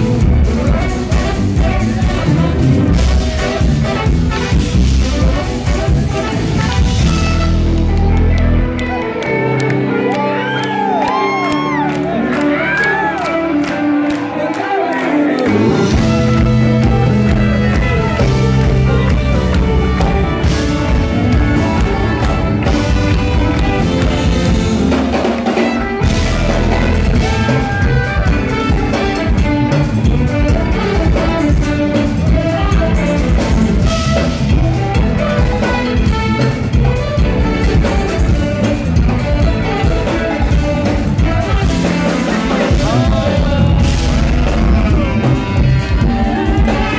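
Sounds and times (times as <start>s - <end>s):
drum kit: 0.0s - 9.0s, 15.4s - 46.9s
electric bass: 0.0s - 10.9s, 15.3s - 46.9s
live band playing loud: 0.0s - 46.9s.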